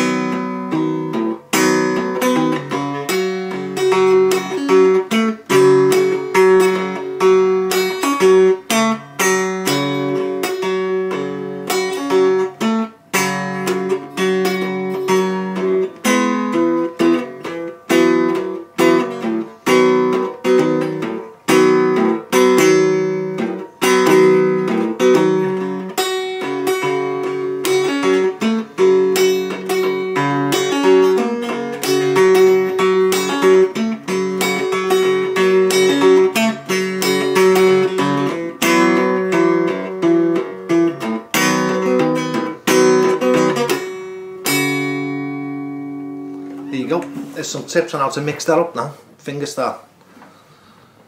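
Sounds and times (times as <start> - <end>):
finger-picked acoustic guitar: 0.0 - 49.2.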